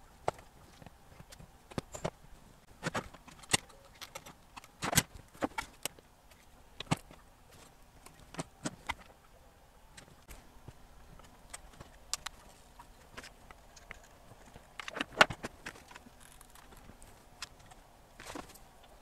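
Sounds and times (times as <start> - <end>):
clicks and knocks of handled parts: 0.1 - 9.2, 9.9 - 19.0.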